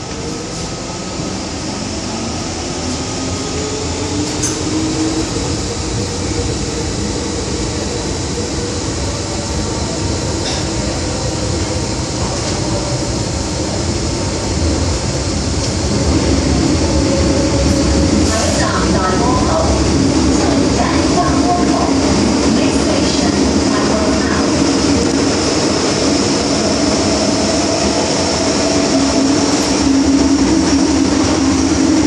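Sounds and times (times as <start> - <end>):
train wheel and running noise: 0.0 - 32.0.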